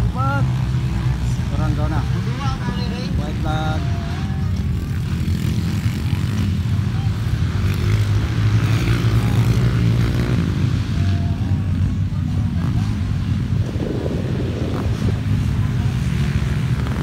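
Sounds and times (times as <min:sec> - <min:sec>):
motorcycle engines droning: 0:00.0 - 0:17.0.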